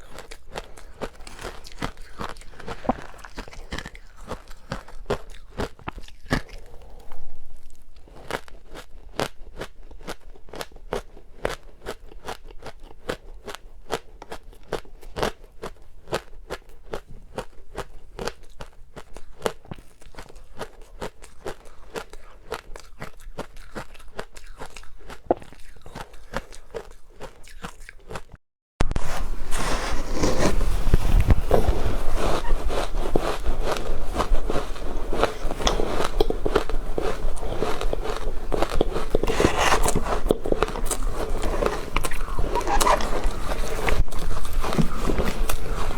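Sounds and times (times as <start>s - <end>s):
chewing crunchy ice: 0.0s - 28.4s, 29.1s - 45.9s.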